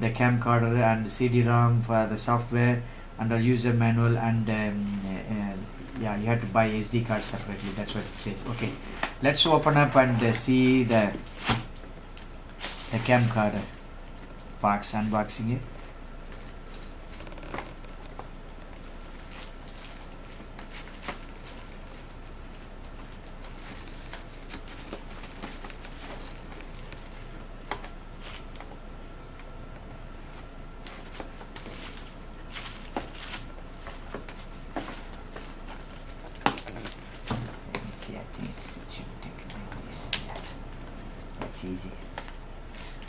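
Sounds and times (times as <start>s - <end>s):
faint steady hum: 0.0s - 43.0s
cardboard and plastic rustling: 4.7s - 28.8s, 30.1s - 43.0s.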